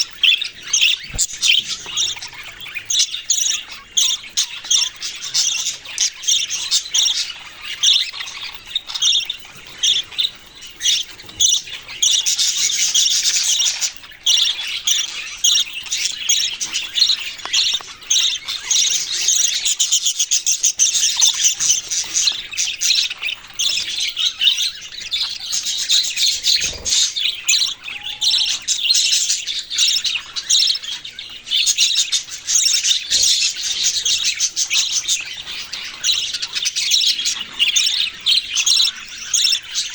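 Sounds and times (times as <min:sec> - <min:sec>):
parrots chirping and chattering: 0:00.0 - 0:39.9.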